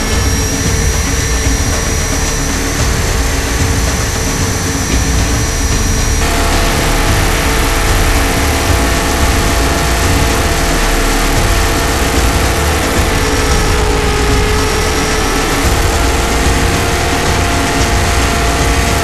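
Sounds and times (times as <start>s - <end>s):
low rotor wash buffeting: 0.0s - 19.0s
rc helicopter motor whine: 0.0s - 19.0s.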